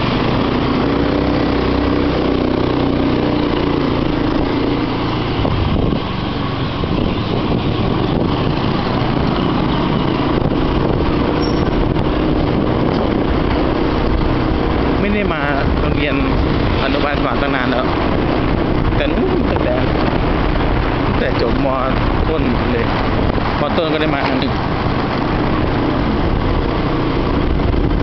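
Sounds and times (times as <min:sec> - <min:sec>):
motorcycle engine running: 0:00.0 - 0:28.0
wind and road noise: 0:00.0 - 0:28.0.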